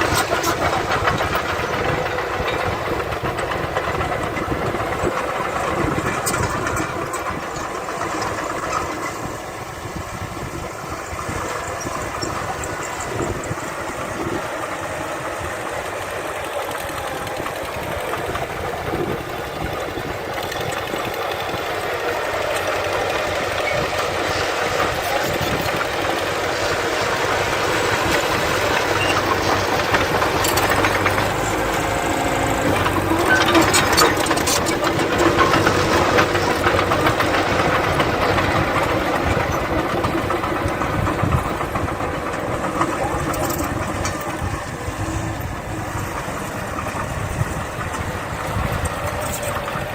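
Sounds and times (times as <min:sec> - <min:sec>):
heavy machinery diesel engine: 0:00.0 - 0:49.9
rattling and clanking: 0:00.0 - 0:49.9.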